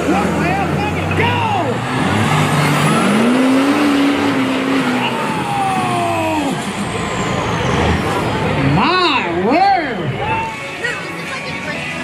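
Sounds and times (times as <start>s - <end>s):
noisy background: 0.0s - 12.0s
truck engines revving: 0.0s - 12.0s.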